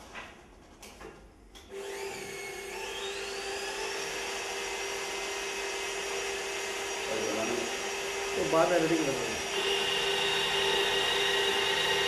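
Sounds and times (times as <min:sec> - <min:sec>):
drill motor whining: 0:01.7 - 0:12.0.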